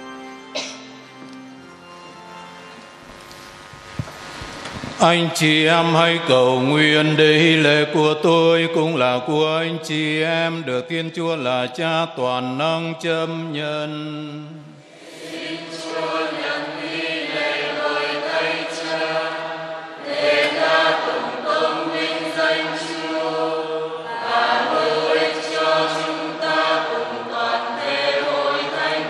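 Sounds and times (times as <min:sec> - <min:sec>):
congregation chanting: 0:05.0 - 0:29.0.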